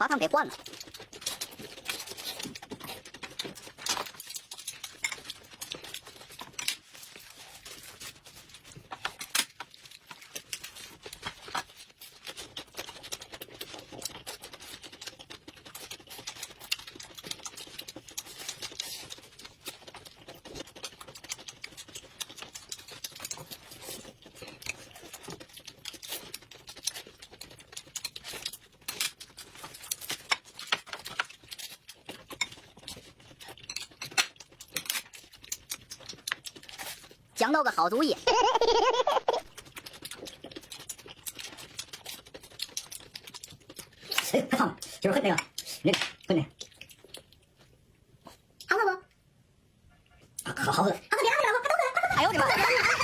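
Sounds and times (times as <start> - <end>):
chewing crackly clicks: 0.6 - 37.3, 39.4 - 48.7.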